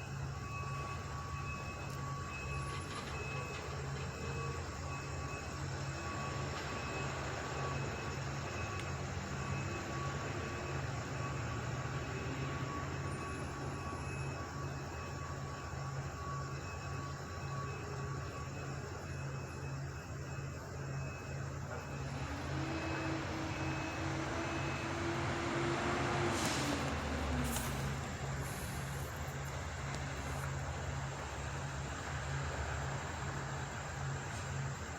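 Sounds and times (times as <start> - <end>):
machinery drone: 0.0 - 34.9.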